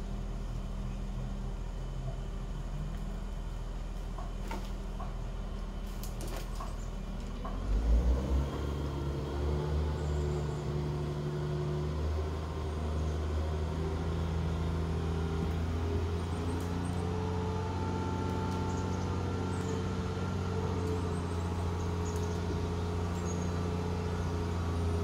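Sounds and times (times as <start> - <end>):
crane engine revving: 0.0 - 25.0.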